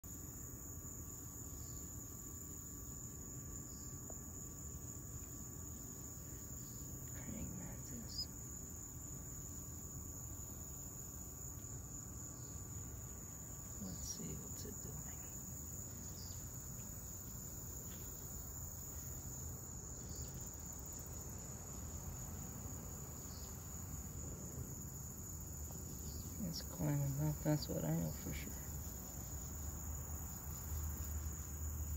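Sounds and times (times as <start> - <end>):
insects trilling: 0.0 - 31.9
low background hum: 0.2 - 31.9.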